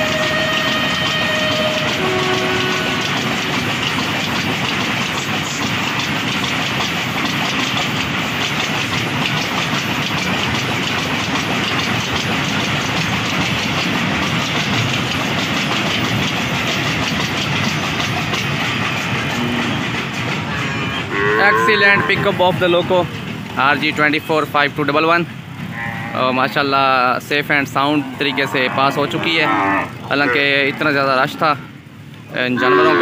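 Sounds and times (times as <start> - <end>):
freight train rolling rumble: 0.0 - 33.0
wheels clickety-clack over rail joints: 0.0 - 33.0.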